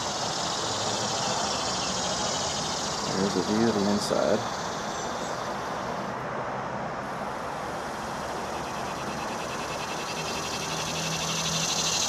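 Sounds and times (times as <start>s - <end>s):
distant road traffic: 0.0s - 12.0s
insects chirping faintly: 0.0s - 12.0s.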